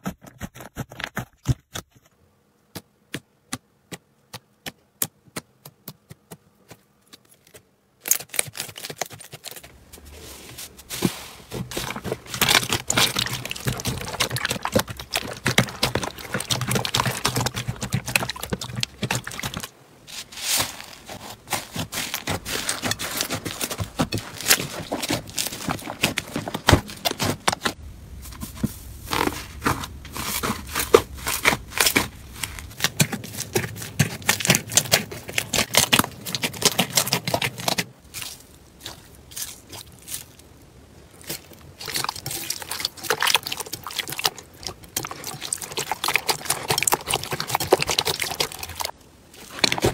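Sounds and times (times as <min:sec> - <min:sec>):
slime crackling and squishing: 0:08.0 - 0:40.5, 0:41.1 - 0:49.9.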